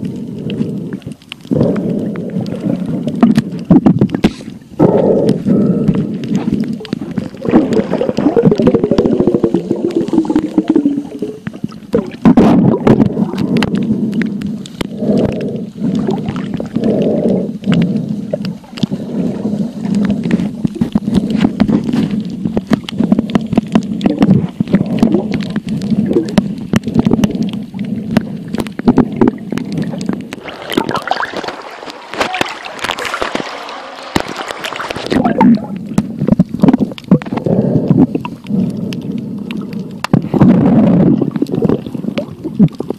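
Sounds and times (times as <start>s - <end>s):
underwater gurgling and crackling: 0.0s - 42.9s.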